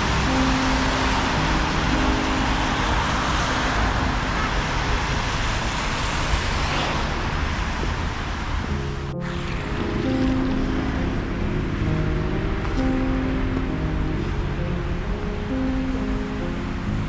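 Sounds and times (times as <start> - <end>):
cars passing on snowy street: 0.0 - 17.0.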